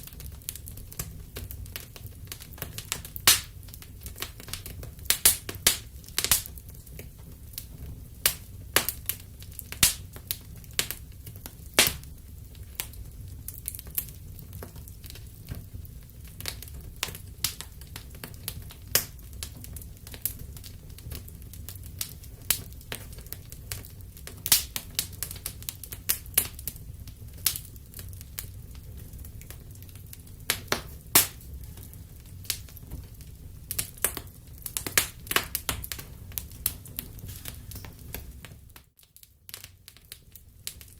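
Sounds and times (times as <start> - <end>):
fire crackling and popping: 0.0 - 40.9
rumble of fire flames: 0.0 - 40.9.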